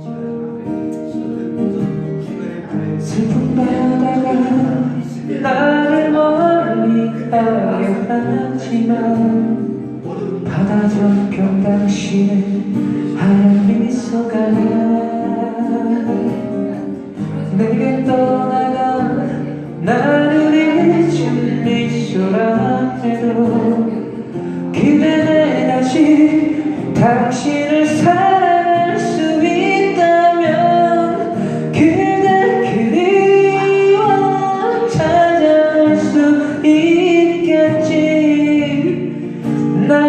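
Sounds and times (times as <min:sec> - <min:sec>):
acoustic guitar: 0:00.0 - 0:40.0
person singing a ballad: 0:00.0 - 0:40.0.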